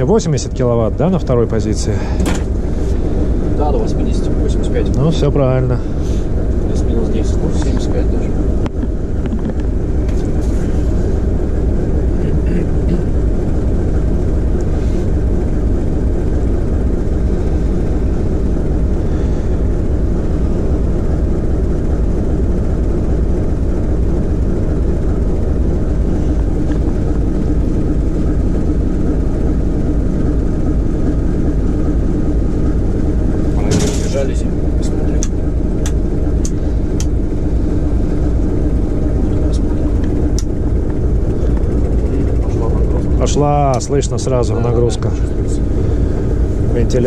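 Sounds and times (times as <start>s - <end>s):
diesel locomotive engine rumbling: 0.0s - 47.0s.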